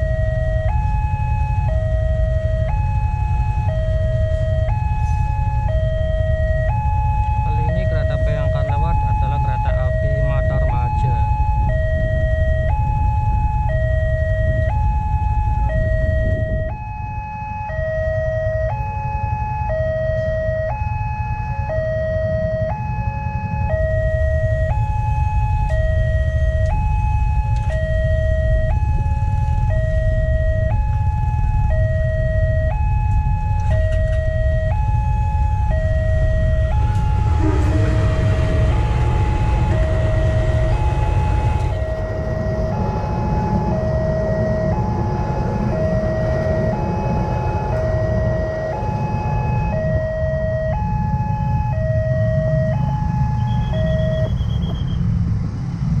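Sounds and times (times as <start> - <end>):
two-tone crossing alarm: 0.0 - 55.1
loud low rumble: 0.0 - 56.0.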